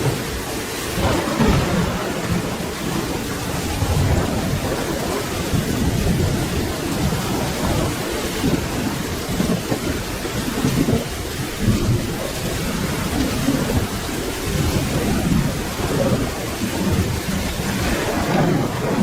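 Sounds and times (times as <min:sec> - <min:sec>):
rolling rumble of thunder: 0:00.0 - 0:19.0
steady rain: 0:00.0 - 0:19.0.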